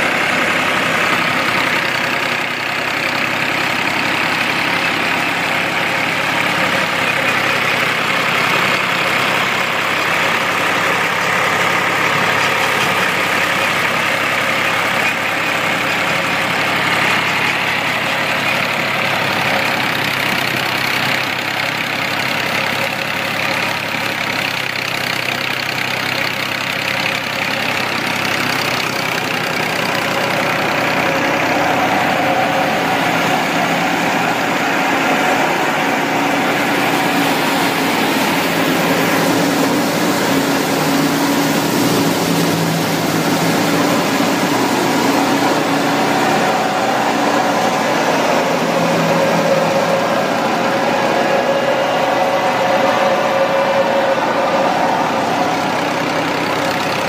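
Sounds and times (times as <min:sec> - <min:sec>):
tractor and thresher drone: 0:00.0 - 0:57.0.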